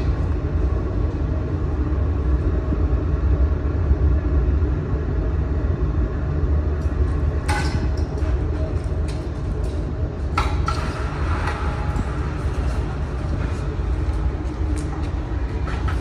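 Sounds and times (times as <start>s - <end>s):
furnace burner low rumble: 0.0s - 16.0s.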